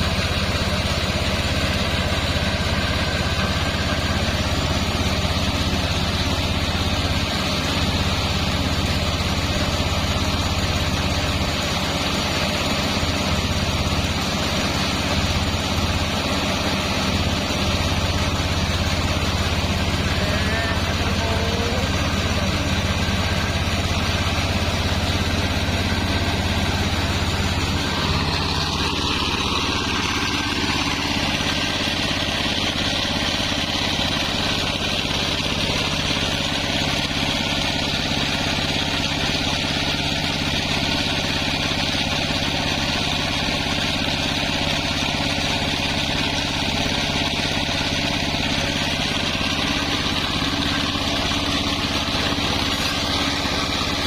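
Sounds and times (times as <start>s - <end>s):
sawmill machinery humming: 0.0s - 54.0s.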